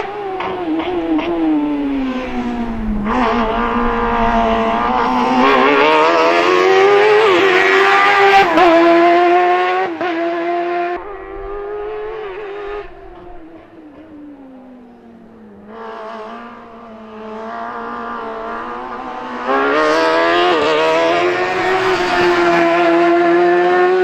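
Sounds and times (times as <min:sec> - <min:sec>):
motorcycle engine revving high: 0:00.0 - 0:24.0.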